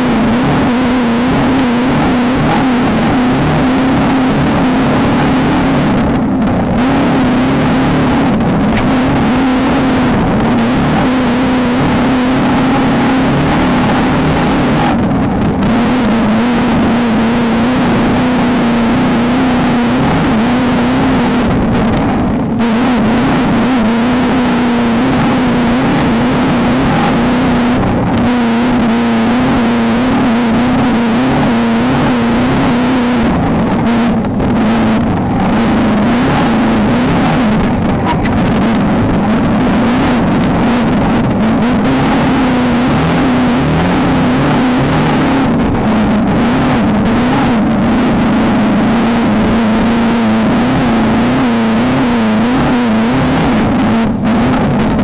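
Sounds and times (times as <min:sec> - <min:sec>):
race car engine revving: 0:00.0 - 0:55.0
road and wind noise: 0:00.0 - 0:55.0.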